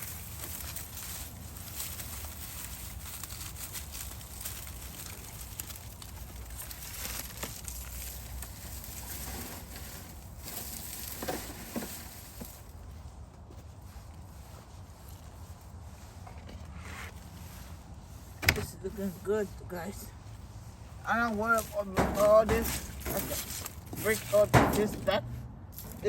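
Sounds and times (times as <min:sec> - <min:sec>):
leaves rustling: 0:00.0 - 0:26.0.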